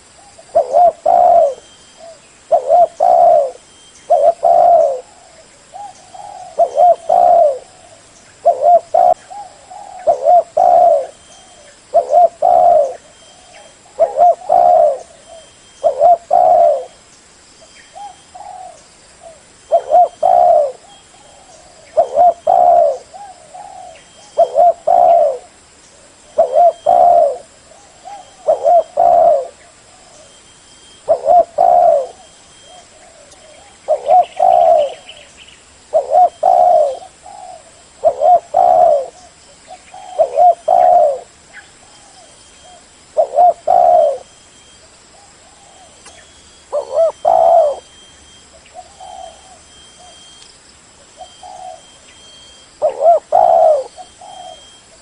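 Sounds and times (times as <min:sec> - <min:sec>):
dove cooing: 0:00.0 - 0:17.0, 0:17.9 - 0:35.3, 0:35.9 - 0:50.3, 0:51.1 - 0:55.0.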